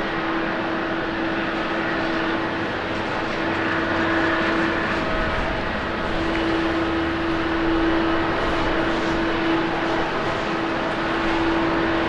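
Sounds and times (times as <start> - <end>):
jet engines with whine: 0.0 - 12.0.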